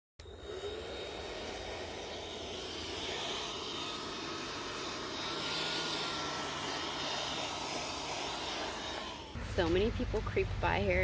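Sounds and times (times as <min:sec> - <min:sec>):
handheld blower running: 0:00.2 - 0:10.6.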